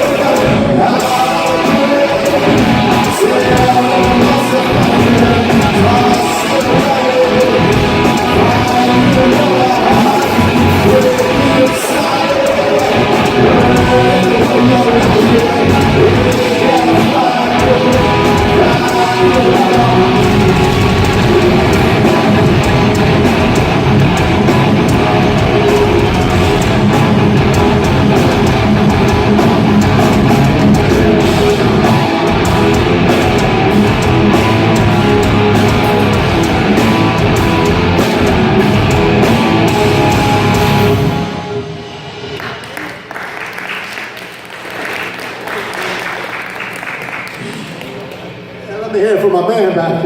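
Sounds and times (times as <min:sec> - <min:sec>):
drum kit: 0:00.0 - 0:43.1
electric guitar: 0:00.0 - 0:43.2.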